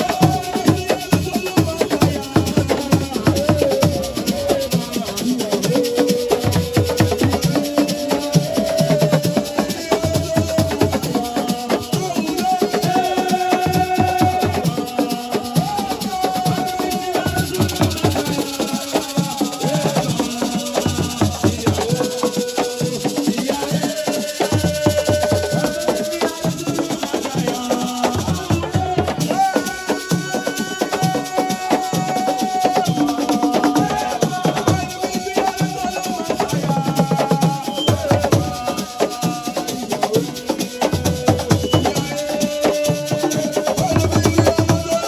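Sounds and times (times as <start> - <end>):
rhythmic percussion with shakers: 0.0 - 45.0.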